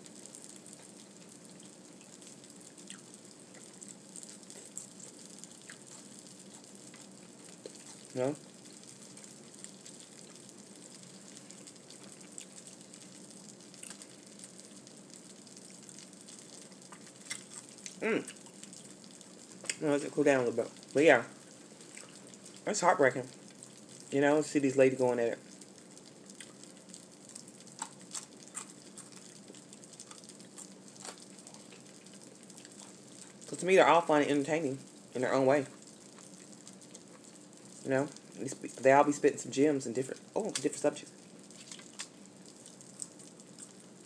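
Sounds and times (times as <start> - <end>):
faint hiss: 0.0 - 28.0, 30.7 - 44.0
food sizzling and crackling: 0.0 - 44.0.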